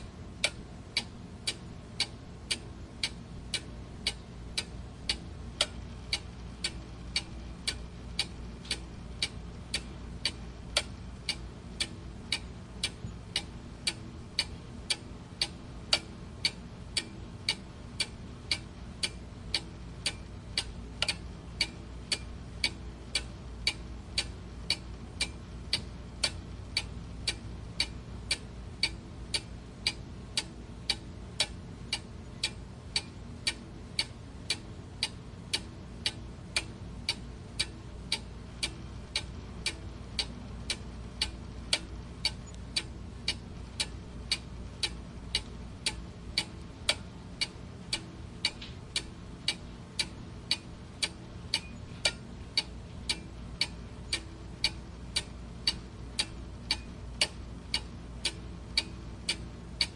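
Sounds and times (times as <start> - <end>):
faint low hum: 0.0 - 59.9
mechanical clock ticking: 0.0 - 59.9.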